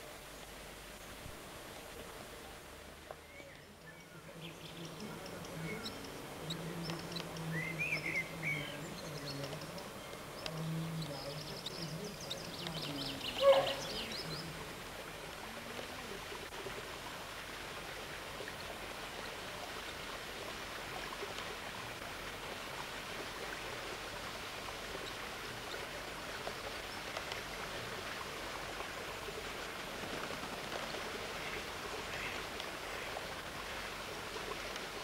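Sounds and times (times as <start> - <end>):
rushing outdoor background hiss: 0.0 - 35.0.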